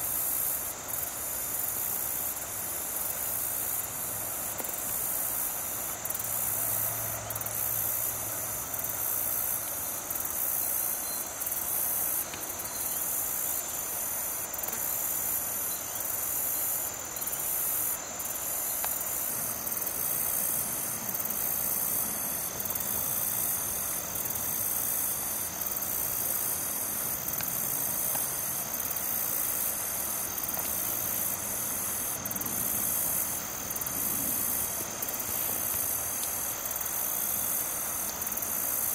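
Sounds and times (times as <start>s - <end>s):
insects trilling: 0.0s - 38.9s
thin insect whine: 0.0s - 38.9s.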